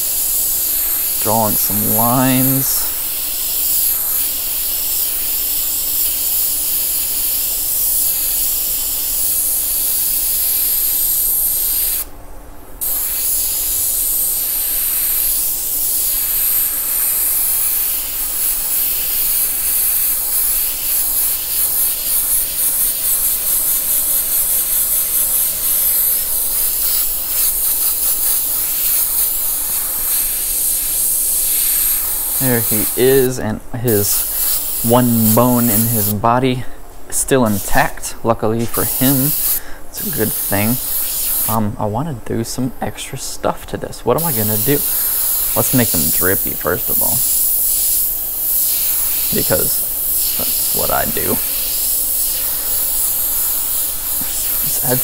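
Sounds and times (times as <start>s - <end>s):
airbrush hissing: 0.0s - 12.1s, 12.8s - 36.8s, 37.4s - 41.8s, 44.1s - 55.0s.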